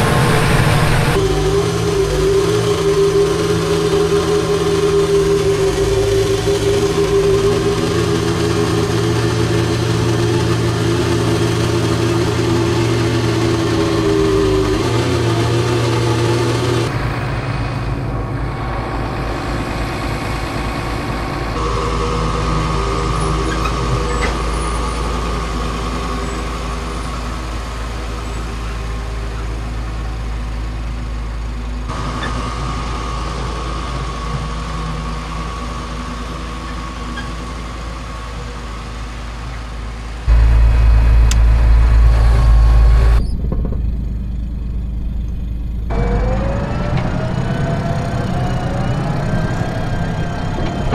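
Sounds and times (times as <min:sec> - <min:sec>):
farm vehicle engine running: 0:00.0 - 0:50.9.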